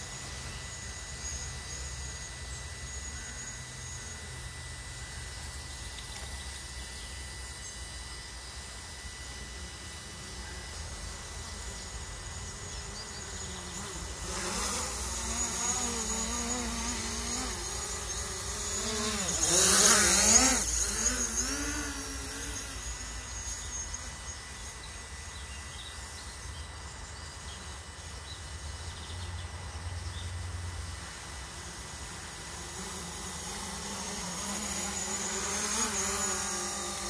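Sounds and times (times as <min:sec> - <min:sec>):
drone propellers buzzing: 0:00.0 - 0:26.8, 0:30.8 - 0:37.0.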